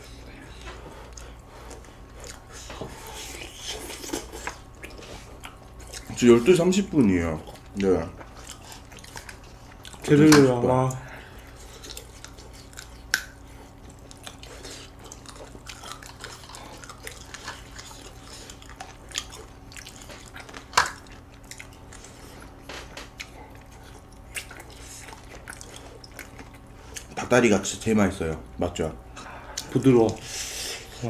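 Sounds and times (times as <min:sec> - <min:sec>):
people chewing and biting food: 0:00.0 - 0:27.8, 0:29.1 - 0:31.0
faint steady hum: 0:00.0 - 0:31.0.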